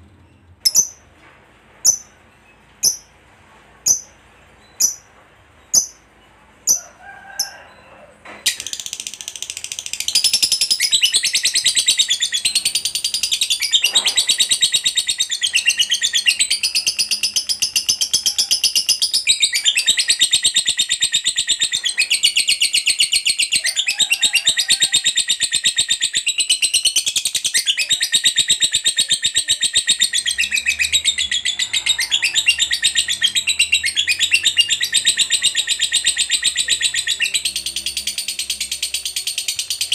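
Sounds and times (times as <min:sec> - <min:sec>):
lovebird chirping and trilling: 0:00.3 - 0:01.1, 0:01.8 - 0:02.2, 0:02.8 - 0:03.1, 0:03.9 - 0:05.1, 0:05.7 - 0:06.0, 0:08.5 - 0:23.9, 0:24.9 - 0:39.9.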